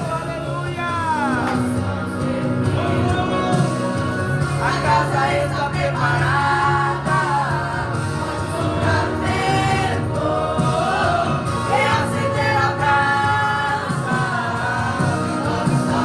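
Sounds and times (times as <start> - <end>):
youth choir singing gospel: 0.0 - 16.0.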